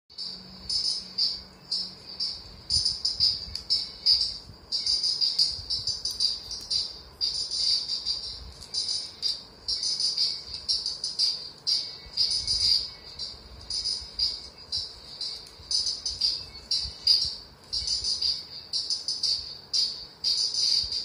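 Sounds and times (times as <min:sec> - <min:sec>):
insect shrill trill: 0:00.1 - 0:21.0.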